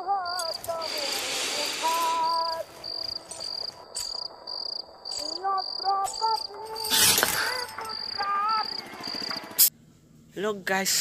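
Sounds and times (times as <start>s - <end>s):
crickets chirping: 0.0s - 9.7s.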